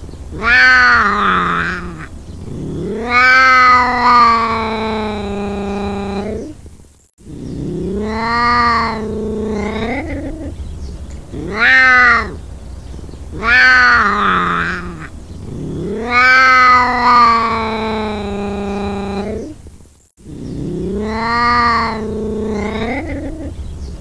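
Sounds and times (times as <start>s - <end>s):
ocelot calling: 0.0s - 6.5s, 7.2s - 19.6s, 20.2s - 24.0s.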